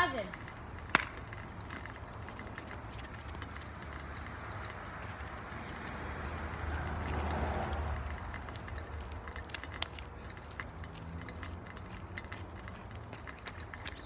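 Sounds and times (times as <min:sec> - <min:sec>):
footsteps on pavement: 0:00.0 - 0:14.0.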